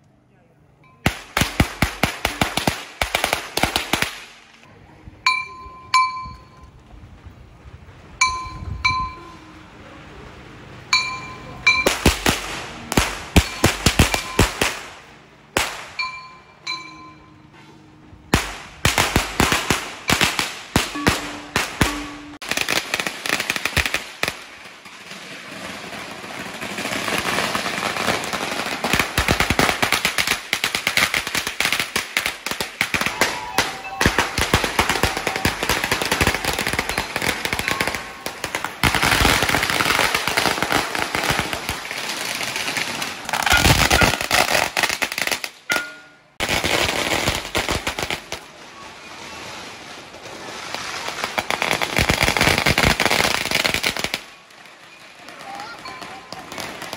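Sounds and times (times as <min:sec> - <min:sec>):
firecrackers going off: 0:01.0 - 0:05.0, 0:06.8 - 0:17.2, 0:18.1 - 0:56.9.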